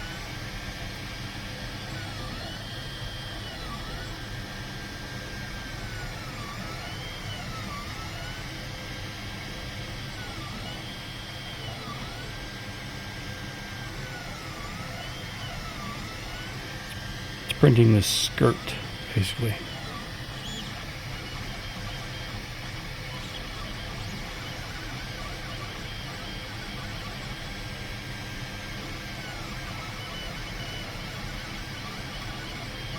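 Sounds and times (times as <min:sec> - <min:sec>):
steady printer whir: 0:00.0 - 0:32.9
stepper motors whining: 0:05.2 - 0:32.9.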